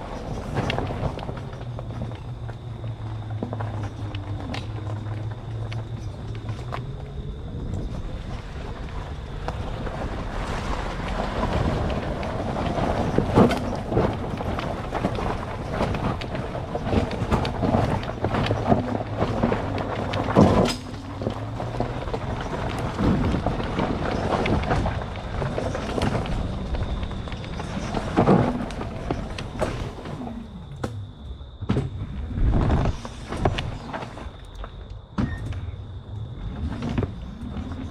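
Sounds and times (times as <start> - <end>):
wind on microphone: 0.0 - 30.6, 31.5 - 34.0
tyres crunching over forest floor: 0.0 - 37.9.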